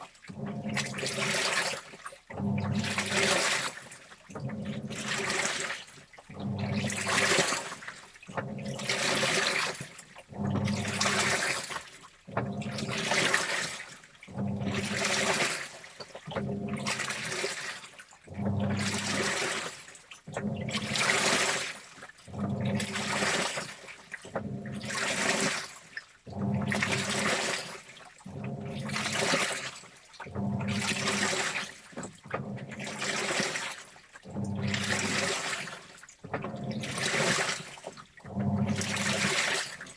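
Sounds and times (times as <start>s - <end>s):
washing machine drum churning: 0.0s - 39.9s.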